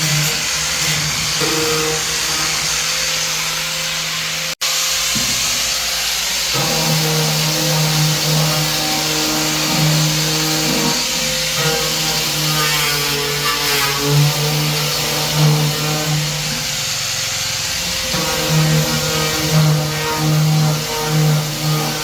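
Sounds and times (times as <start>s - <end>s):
power tool running: 0.0s - 22.0s.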